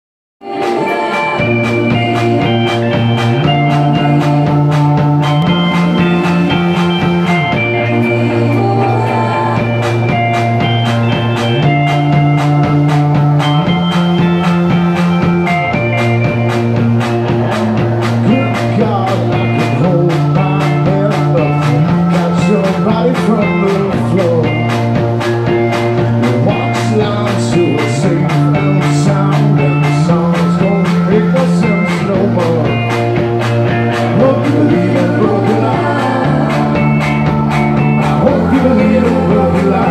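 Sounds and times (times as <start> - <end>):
rock band playing live: 0.4 - 39.9.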